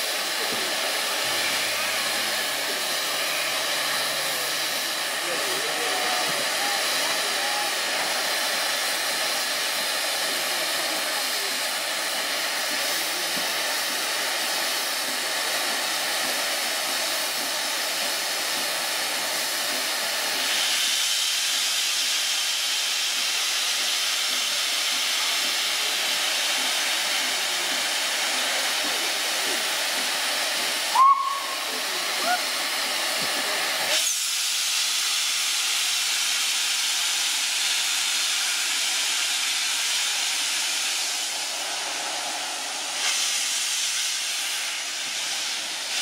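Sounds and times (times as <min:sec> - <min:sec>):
steam locomotive hissing: 0:00.0 - 0:46.0.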